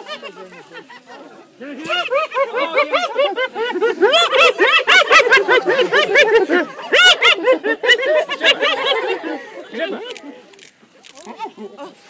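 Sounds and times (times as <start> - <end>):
hyenas giggling: 0.0 - 10.4, 11.0 - 12.0.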